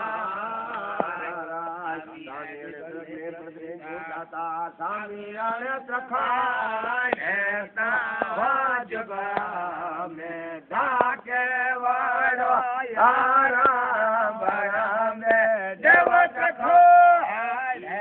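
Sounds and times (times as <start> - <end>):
man chanting a devotional song: 0.0 - 18.0.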